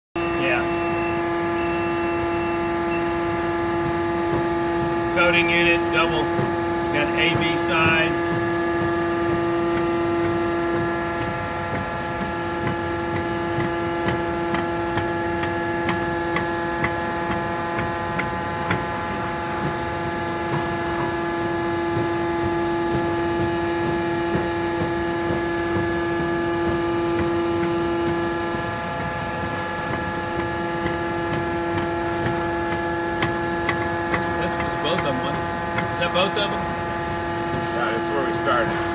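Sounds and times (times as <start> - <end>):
machine hum: 0.2 - 38.9.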